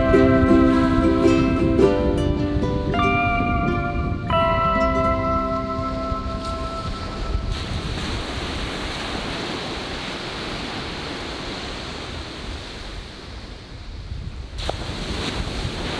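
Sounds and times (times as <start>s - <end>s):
ocean waves breaking on beach: 0.0s - 15.9s.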